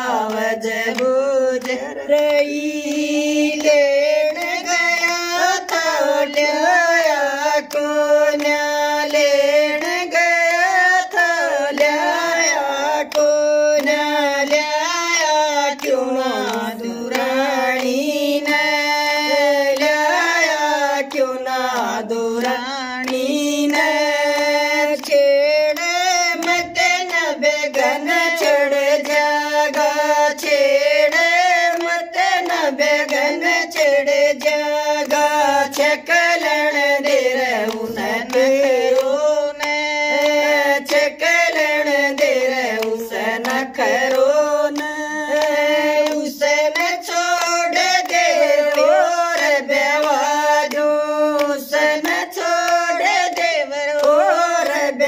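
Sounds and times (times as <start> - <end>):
hand claps: 0.0 - 55.0
women singing in unison: 0.0 - 55.0.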